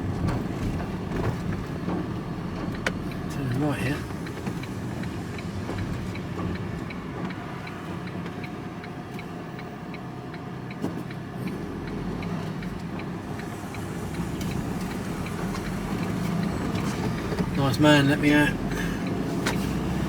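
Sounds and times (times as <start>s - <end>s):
engine and road noise: 0.0s - 20.0s
turn signal ticking: 0.0s - 20.0s.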